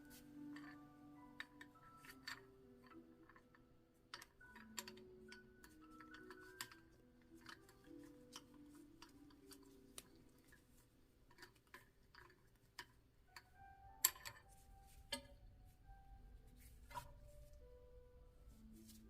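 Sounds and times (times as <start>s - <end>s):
light handling clicks and knocks: 0.1s - 15.5s.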